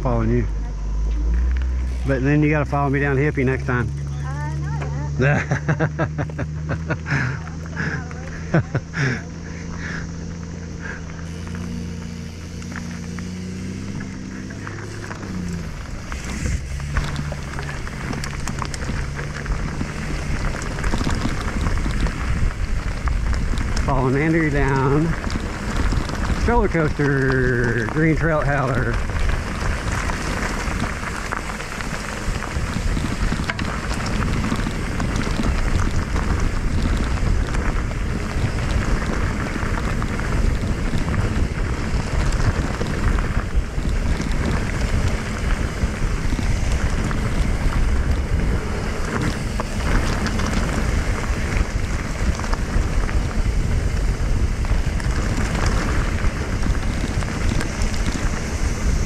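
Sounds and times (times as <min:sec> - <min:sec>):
bike tyres rolling on dirt: 0:00.0 - 0:59.0
wind on microphone: 0:07.1 - 0:59.0.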